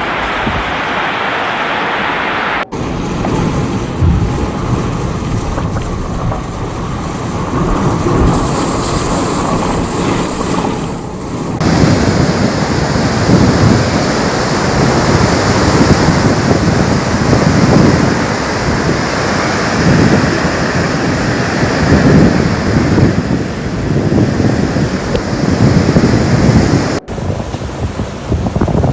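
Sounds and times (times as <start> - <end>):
rushing flood water: 0.0 - 28.9
wind buffeting microphone: 2.6 - 28.9.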